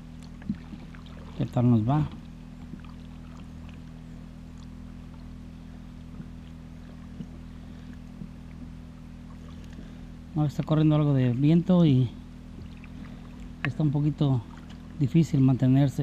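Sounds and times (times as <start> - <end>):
faint water sounds: 0.0 - 16.0
low hum: 0.0 - 16.0.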